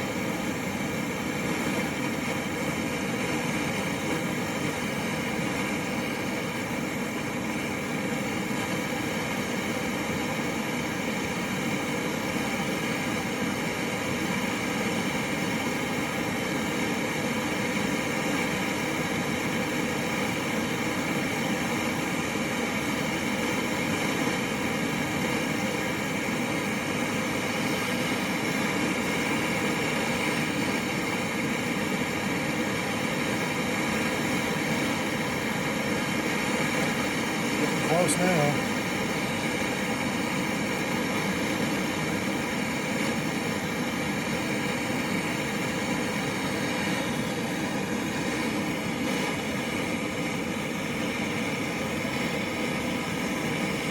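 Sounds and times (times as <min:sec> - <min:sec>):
gas torch roaring: 0:00.0 - 0:53.9.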